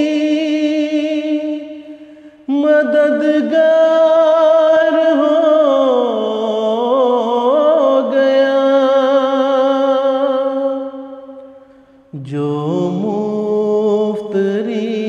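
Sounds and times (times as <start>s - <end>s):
man singing a slow melody: 0.0s - 15.0s.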